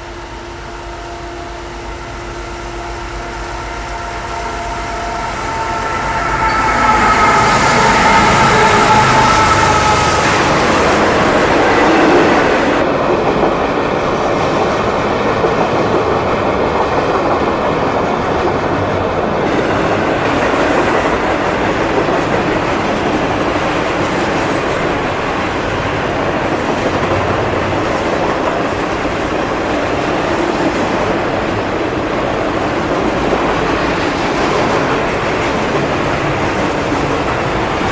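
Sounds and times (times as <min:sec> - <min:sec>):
freight train wheels on rail: 0:00.0 - 0:37.9.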